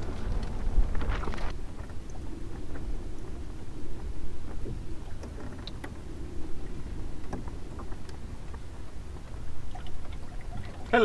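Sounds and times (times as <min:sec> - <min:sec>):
small knocks and ticks: 0:00.0 - 0:10.9
water rushing along a hull: 0:00.0 - 0:11.0
wind rumbling on microphone: 0:00.0 - 0:11.0.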